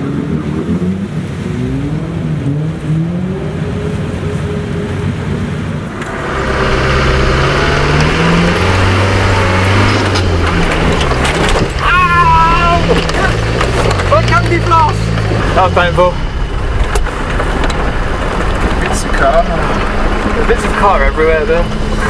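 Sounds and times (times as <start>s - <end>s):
engine running under load: 0.0s - 22.0s
off-road engine revving: 0.0s - 22.0s
rushing noise: 0.0s - 22.0s.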